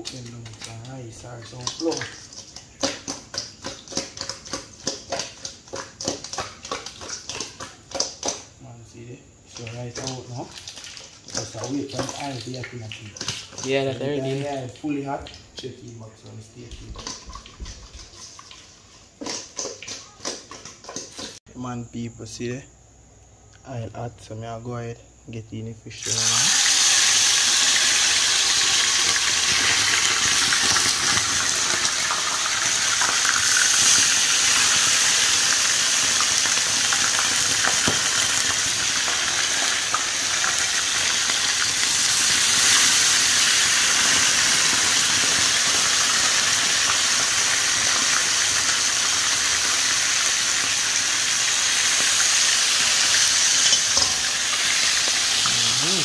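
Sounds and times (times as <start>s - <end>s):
fish sizzling in hot oil: 0.0s - 15.7s, 16.3s - 21.4s, 26.0s - 56.0s.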